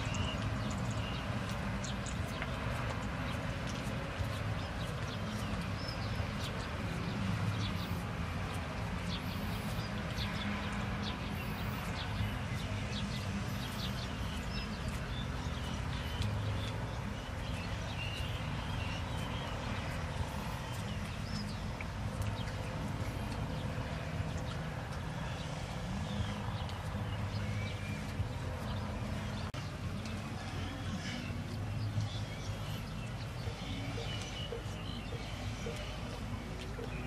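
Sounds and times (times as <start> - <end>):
outdoor background noise: 0.0 - 37.0.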